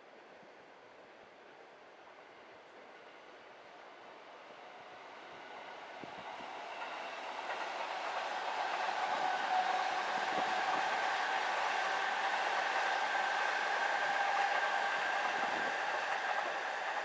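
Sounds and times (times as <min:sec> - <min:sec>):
train running on tracks: 0:00.8 - 0:17.0.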